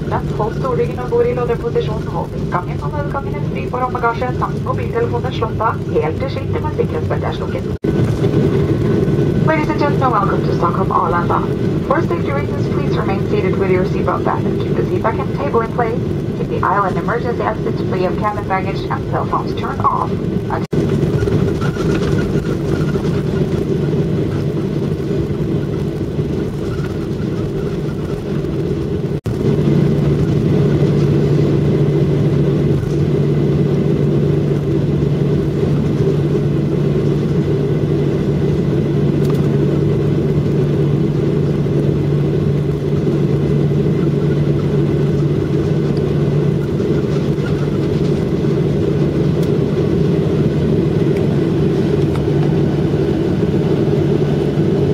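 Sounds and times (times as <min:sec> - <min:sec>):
jet engines at low power: 0:00.0 - 0:54.9.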